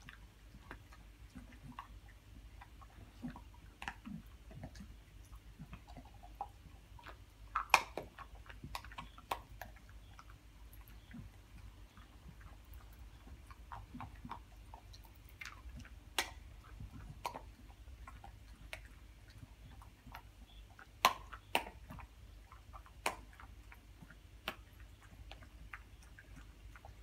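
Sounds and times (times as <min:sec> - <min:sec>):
animals chewing and licking: 0:00.0 - 0:27.0.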